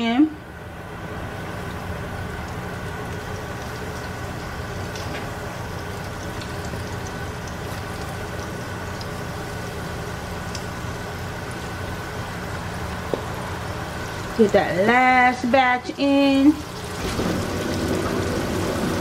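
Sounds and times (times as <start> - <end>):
fish deep-frying in hot oil: 0.6 - 19.0.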